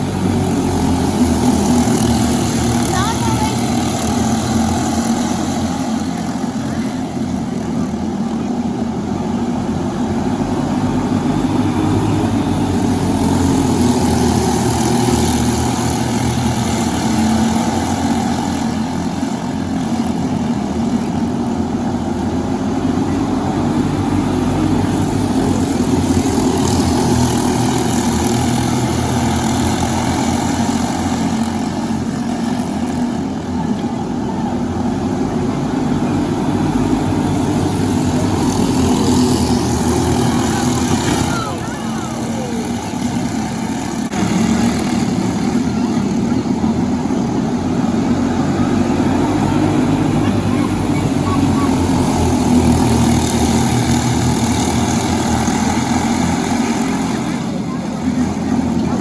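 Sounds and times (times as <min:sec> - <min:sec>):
kart engine running: 0:00.0 - 0:59.0.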